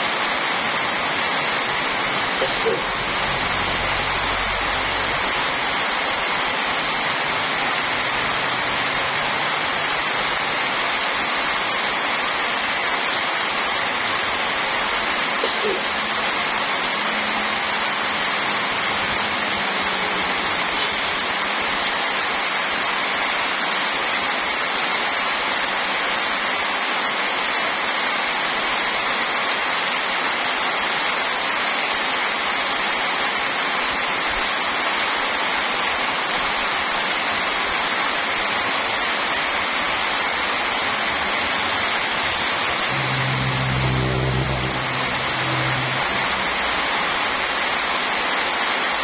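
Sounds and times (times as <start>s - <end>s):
heavy rain pouring: 0.0s - 49.0s.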